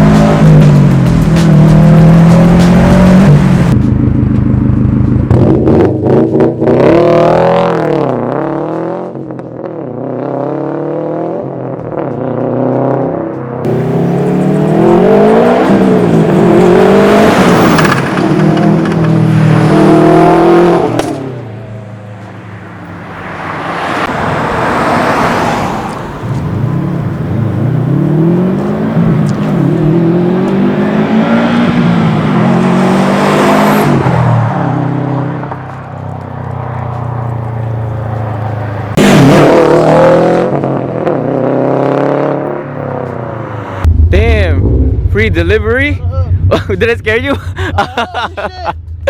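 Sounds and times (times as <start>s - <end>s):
car engine accelerating and shifting: 0.0s - 49.0s.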